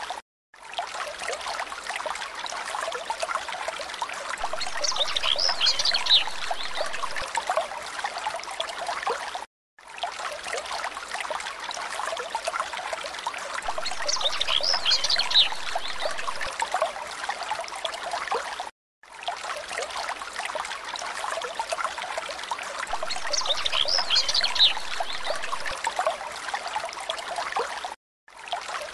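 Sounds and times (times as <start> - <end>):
trickling water: 0.0 - 28.9.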